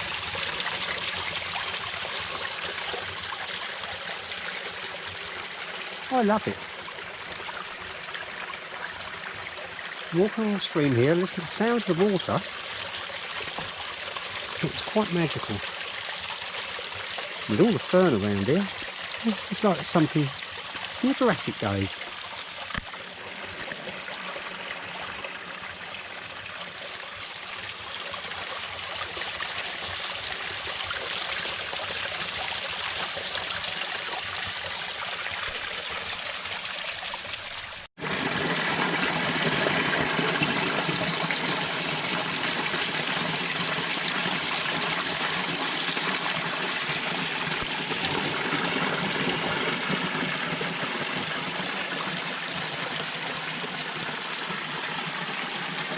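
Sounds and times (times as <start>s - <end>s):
stream trickling over stones: 0.0s - 55.9s.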